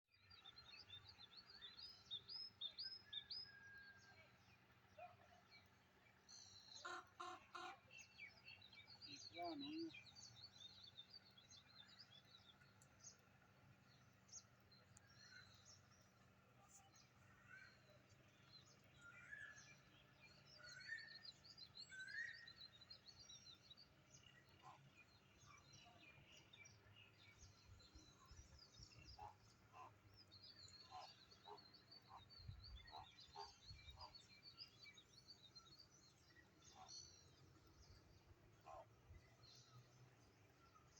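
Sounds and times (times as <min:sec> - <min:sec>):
small birds chirping: 0:04.2 - 0:40.9.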